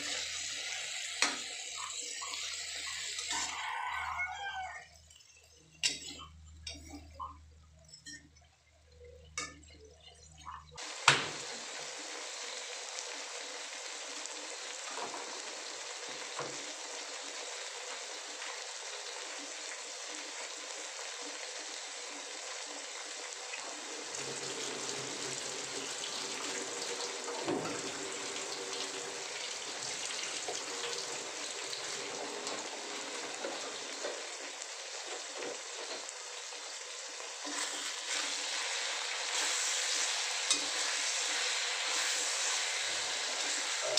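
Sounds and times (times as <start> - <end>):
food sizzling in oil: 0.0 - 7.4, 9.4 - 43.9.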